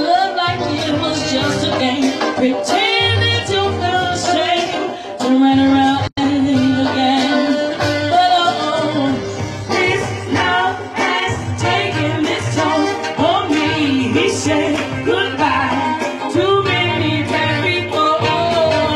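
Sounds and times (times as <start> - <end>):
soul band playing: 0.0 - 18.9
woman singing: 0.0 - 18.9.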